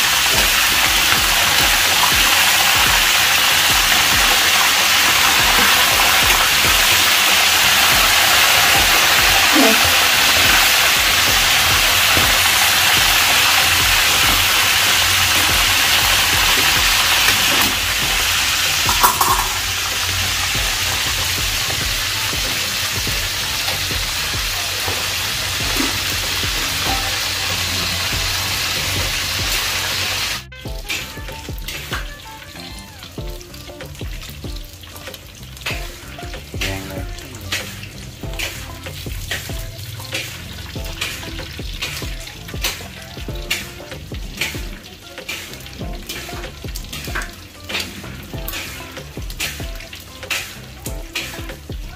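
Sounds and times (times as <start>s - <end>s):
deep-frying oil sizzling: 0.0s - 51.9s.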